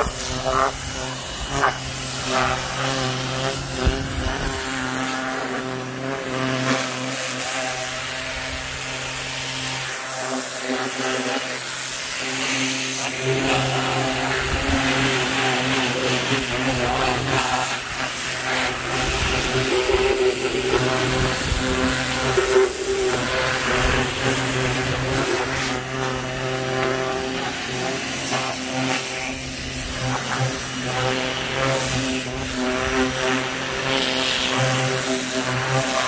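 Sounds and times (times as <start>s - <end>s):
pressure washer motor humming: 0.0s - 36.0s
water jet spraying: 0.0s - 36.0s.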